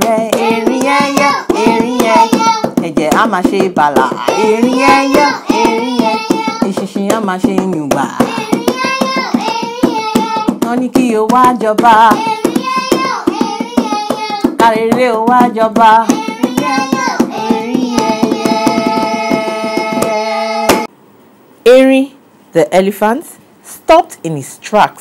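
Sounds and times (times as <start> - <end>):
hand percussion strokes: 0.0 - 14.8, 15.4 - 20.9
high voice singing folk song: 0.0 - 20.9.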